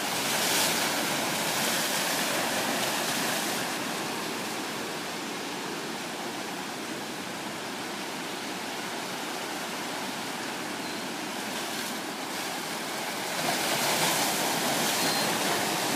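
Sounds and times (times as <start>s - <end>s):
ocean surf over rocks: 0.0s - 15.9s.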